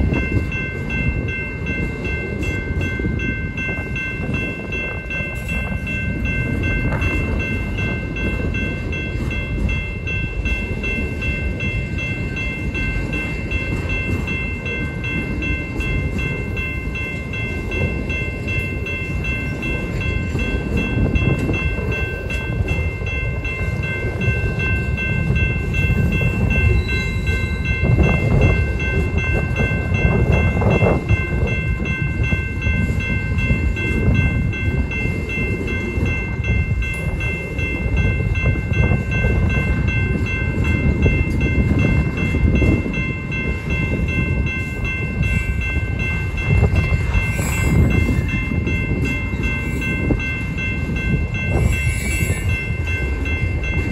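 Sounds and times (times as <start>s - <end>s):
high ringing tone: 0.0s - 53.9s
train wheels rumbling on rails: 0.0s - 53.9s.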